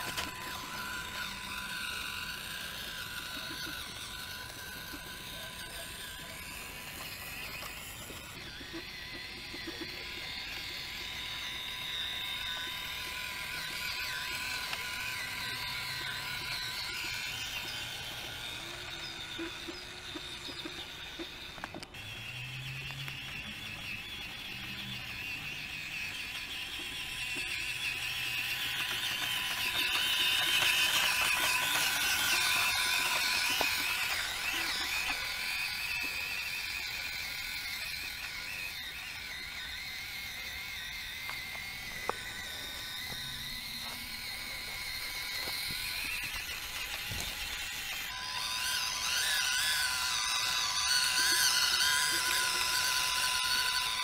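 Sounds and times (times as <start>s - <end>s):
toy car motor whining: 0.0s - 54.0s.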